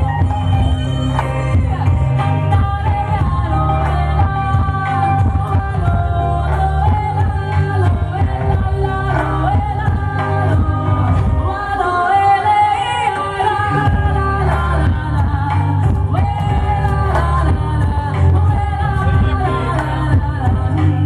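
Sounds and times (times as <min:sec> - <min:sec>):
heavy bass line: 0:00.0 - 0:11.6, 0:13.7 - 0:21.0
live band music: 0:00.0 - 0:21.0.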